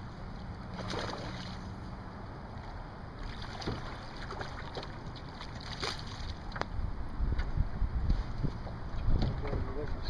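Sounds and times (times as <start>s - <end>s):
choppy water around boat: 0.0s - 10.0s.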